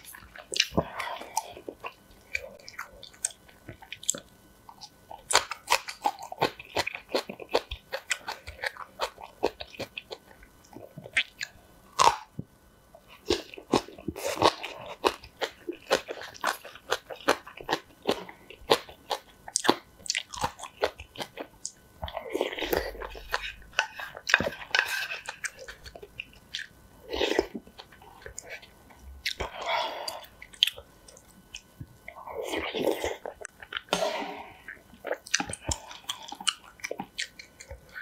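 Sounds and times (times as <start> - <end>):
crunching and chewing: 0.0 - 38.0.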